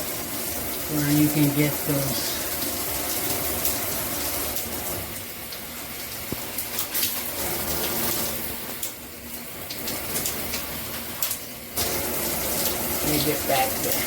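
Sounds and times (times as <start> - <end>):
shower water spraying: 0.0 - 14.0.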